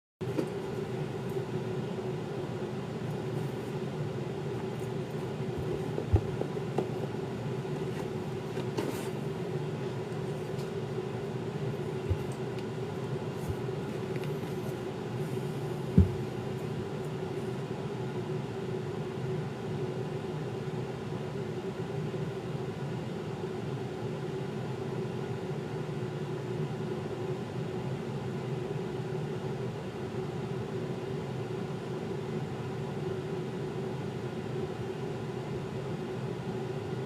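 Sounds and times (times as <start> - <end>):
mechanical hum: 0.2 - 37.0.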